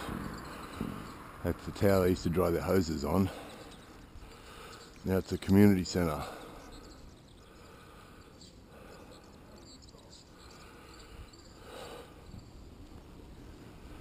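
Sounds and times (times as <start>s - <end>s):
high insect-like trill: 0.0s - 14.0s.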